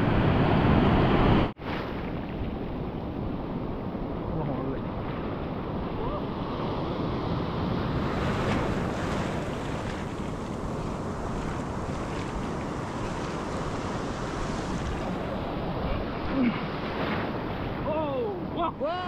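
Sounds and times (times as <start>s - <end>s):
surf breaking on beach: 0.0s - 19.0s
wind rumbling on microphone: 0.0s - 19.0s.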